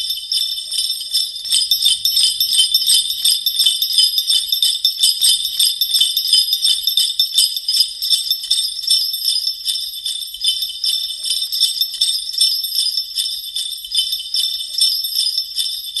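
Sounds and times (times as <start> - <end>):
sleigh bells jingling: 0.0 - 16.0.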